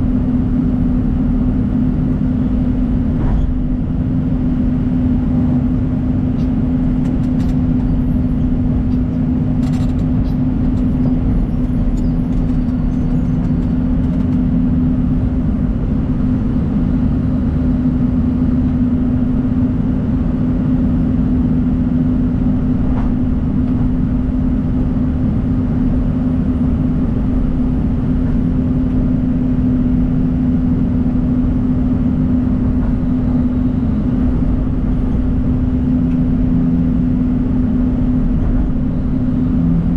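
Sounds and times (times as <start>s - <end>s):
diesel engine droning steadily: 0.0s - 39.9s.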